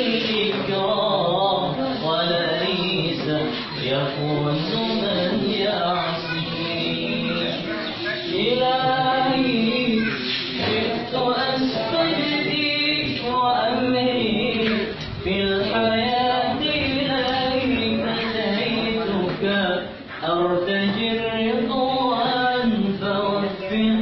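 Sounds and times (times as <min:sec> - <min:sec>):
class voices chanting: 0:00.0 - 0:19.3
man chanting: 0:00.0 - 0:24.0.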